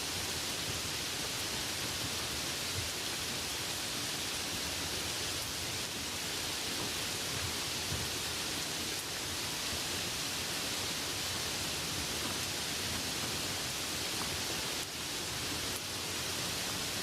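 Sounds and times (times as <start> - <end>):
light rain hissing: 0.0 - 17.0.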